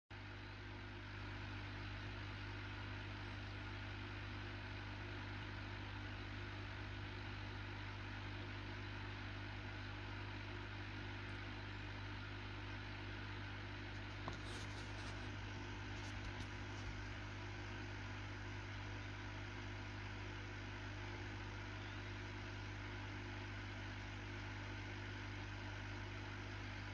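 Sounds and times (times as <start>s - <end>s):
aquarium pump hum: 0.2s - 26.9s.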